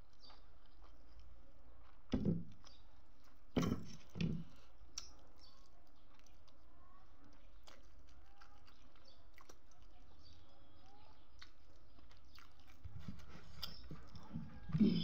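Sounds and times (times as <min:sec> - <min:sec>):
person chewing with wet clicks: 0:00.0 - 0:03.4, 0:04.5 - 0:14.7.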